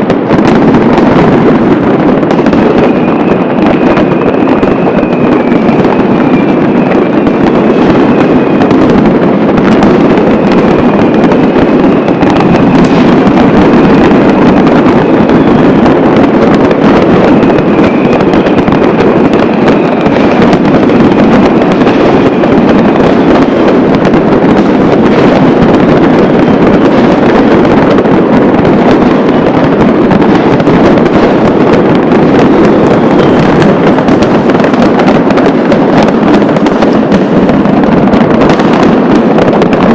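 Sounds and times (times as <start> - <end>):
fireworks and firecrackers barrage: 0.0 - 39.9.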